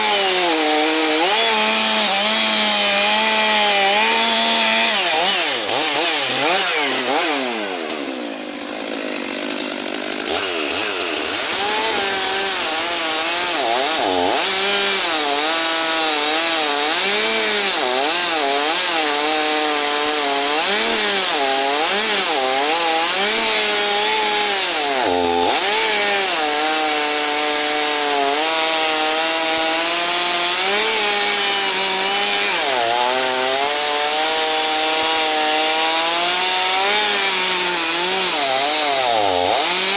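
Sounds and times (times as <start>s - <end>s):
chainsaw ripping wood: 0.0s - 39.9s.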